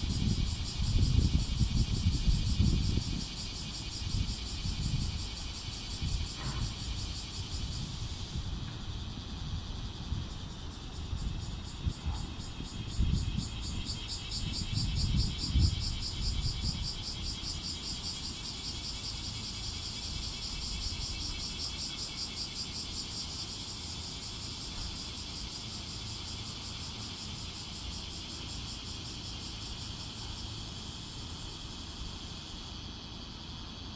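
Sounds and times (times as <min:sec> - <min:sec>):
cicadas buzzing: 0:00.0 - 0:33.9.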